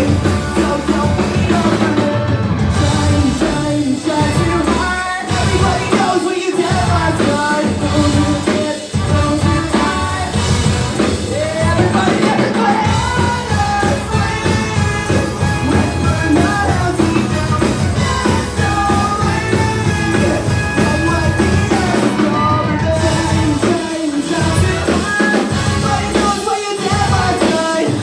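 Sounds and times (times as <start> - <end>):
live rock band playing: 0.0 - 28.0
person singing: 0.0 - 28.0.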